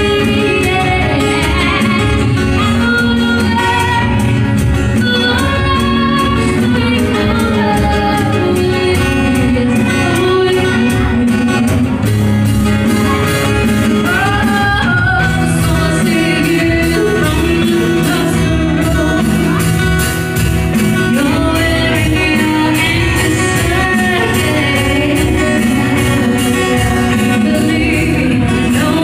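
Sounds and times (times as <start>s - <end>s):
person singing: 0.0s - 29.0s
plucked guitar: 0.0s - 29.0s.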